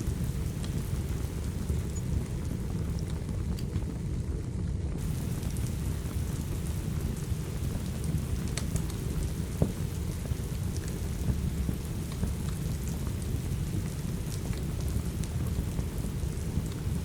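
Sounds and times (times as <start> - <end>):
log fire crackling: 0.0 - 17.0
steady rain: 0.0 - 17.0.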